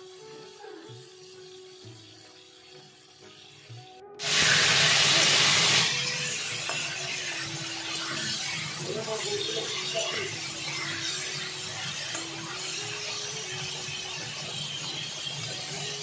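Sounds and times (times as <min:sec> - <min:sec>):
faint background music: 0:00.0 - 0:16.0
vegetables sizzling in hot oil: 0:00.0 - 0:16.0.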